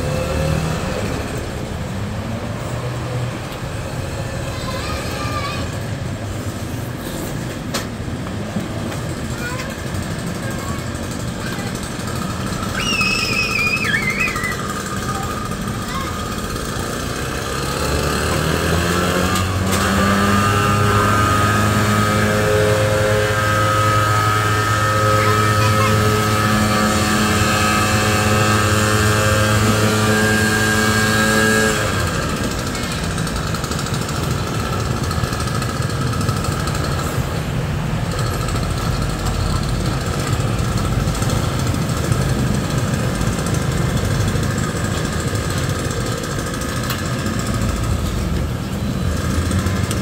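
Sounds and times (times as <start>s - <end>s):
road traffic rumble: 0.0s - 50.0s
vehicle engine humming: 0.0s - 50.0s.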